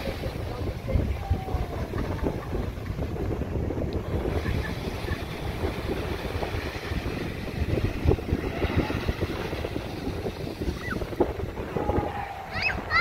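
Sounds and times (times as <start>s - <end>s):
small waves washing onto beach: 0.0s - 13.0s
wind buffeting microphone: 0.0s - 13.0s.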